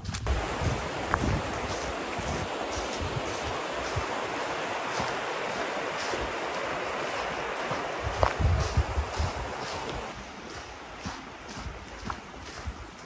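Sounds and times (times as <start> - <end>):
river rushing over stones: 0.3 - 11.5.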